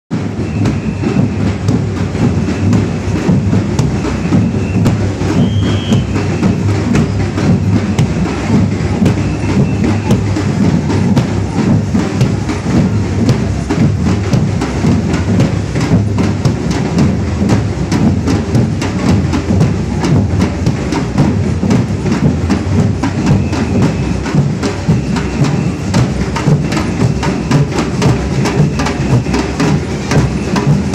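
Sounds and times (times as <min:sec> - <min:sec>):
bass drums struck with mallets: 0:00.1 - 0:30.9
snare drums rattling: 0:00.1 - 0:30.9.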